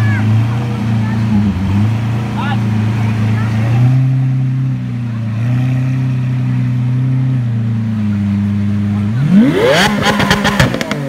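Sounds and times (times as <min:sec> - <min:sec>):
car engine idling: 0:00.0 - 0:11.0
engine revving: 0:00.0 - 0:11.0.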